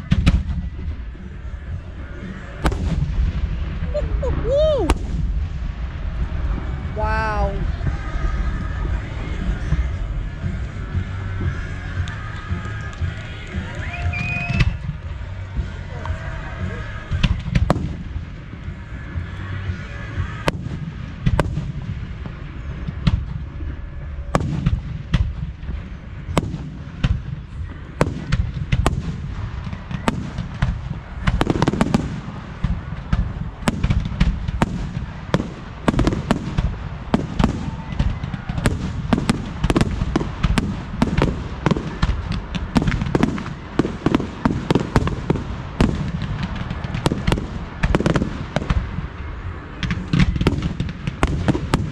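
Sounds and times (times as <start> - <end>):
fireworks bangs: 0.0 - 51.9
low rumble: 0.0 - 51.9.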